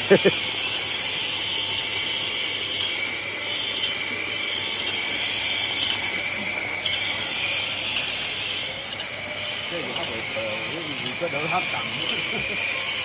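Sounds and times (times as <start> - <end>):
high hiss: 0.0 - 13.0
machine whirring: 0.0 - 13.0.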